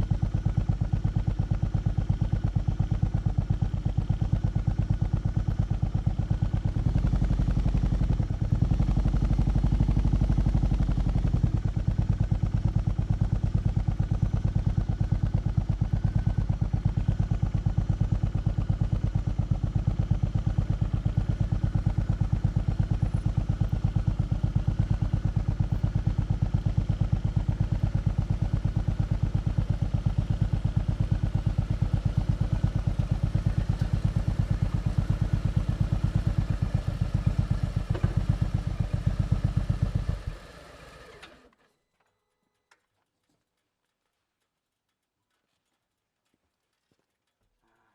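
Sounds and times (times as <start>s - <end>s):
motorcycle engine idling: 0.0s - 41.4s.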